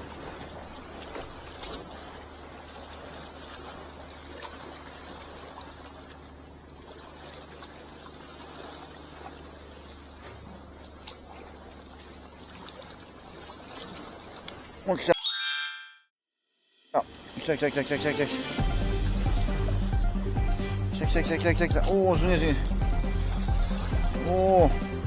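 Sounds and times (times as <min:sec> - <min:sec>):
water lapping at shore: 0:00.0 - 0:15.1, 0:17.0 - 0:25.0.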